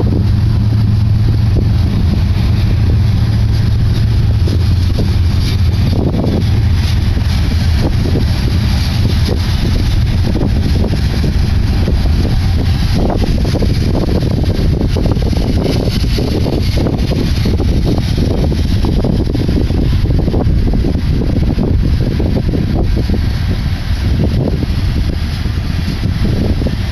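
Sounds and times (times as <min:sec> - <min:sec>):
freight train wheels rumbling: 0:00.0 - 0:26.9
wind on microphone: 0:00.0 - 0:26.9.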